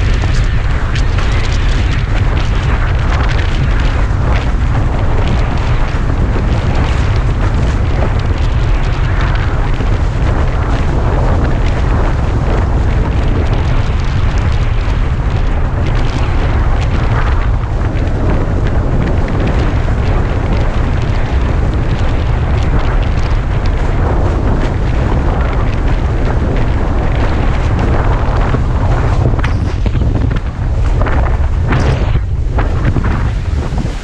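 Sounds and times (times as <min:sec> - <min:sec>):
water rushing and splashing: 0:00.0 - 0:34.0
wind buffeting microphone: 0:00.0 - 0:34.0.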